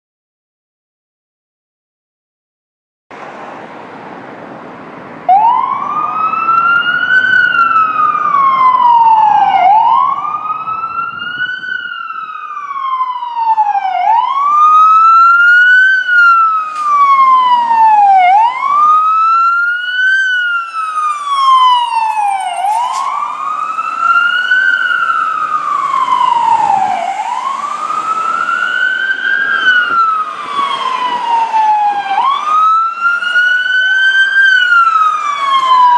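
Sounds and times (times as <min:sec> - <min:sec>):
fire truck siren wailing: 0:04.7 - 0:35.9.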